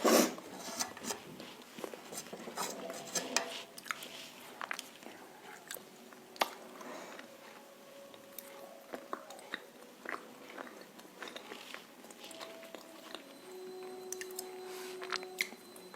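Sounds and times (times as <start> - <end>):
person chewing crunchy food: 0.9 - 15.9.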